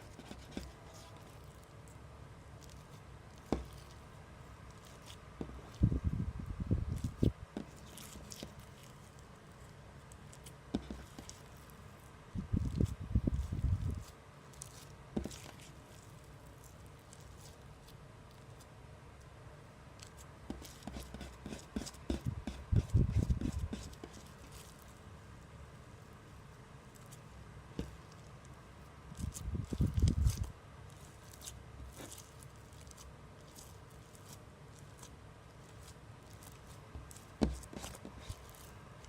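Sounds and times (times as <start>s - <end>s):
slime squelching by hand: 0.0s - 18.7s, 20.0s - 39.0s.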